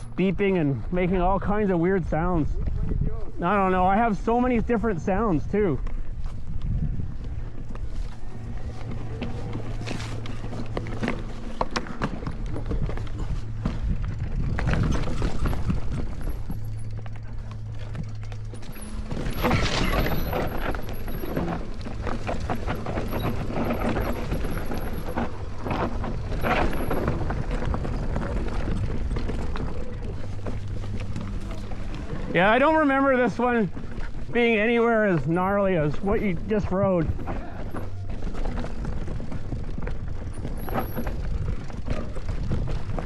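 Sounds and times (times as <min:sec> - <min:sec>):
bike rattling over rough trail: 0:00.0 - 0:43.0
low hum: 0:00.0 - 0:43.0
tyre noise: 0:00.0 - 0:43.0
wind noise: 0:00.0 - 0:43.0.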